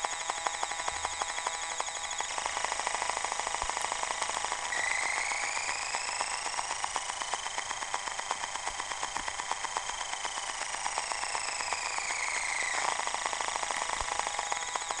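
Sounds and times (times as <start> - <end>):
high whining tones: 0.0 - 15.0
rapid chopping pulse: 0.0 - 15.0.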